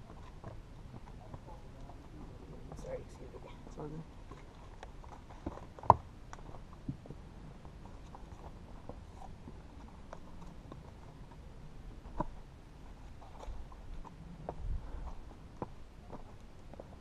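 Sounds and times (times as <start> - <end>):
footsteps on rock: 2.7 - 17.0.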